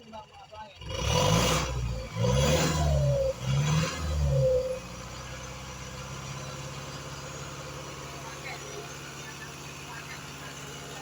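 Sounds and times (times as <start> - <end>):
vehicle engine revving and idling: 0.0 - 11.0.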